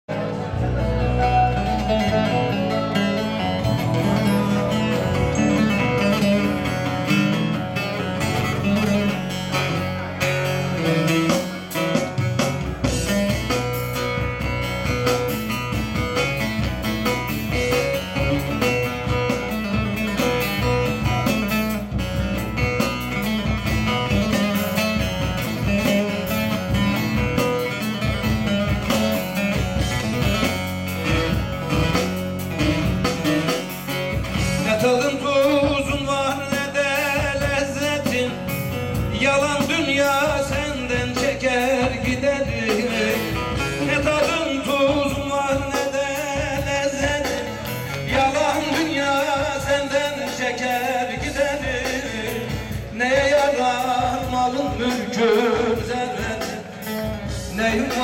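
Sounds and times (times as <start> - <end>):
long-necked lute plucked: 0.1 - 53.2
keyboard accompaniment: 0.1 - 58.0
steady beat: 0.1 - 58.0.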